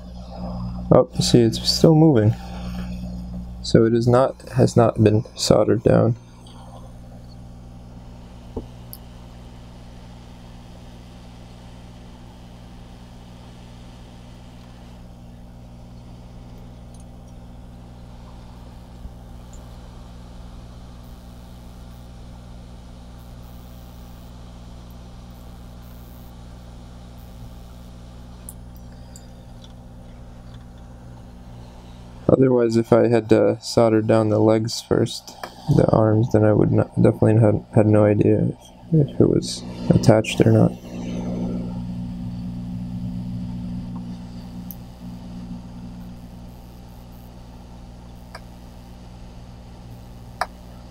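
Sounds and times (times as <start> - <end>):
hot air blower humming and hissing: 0.0 - 50.9.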